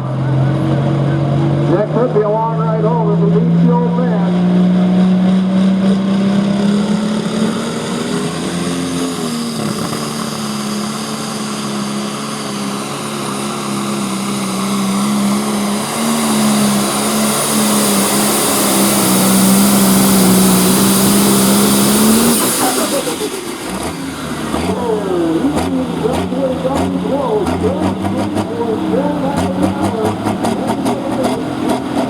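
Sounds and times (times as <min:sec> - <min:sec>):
diesel engine droning: 0:00.0 - 0:32.0
high turbo whine: 0:00.0 - 0:32.0.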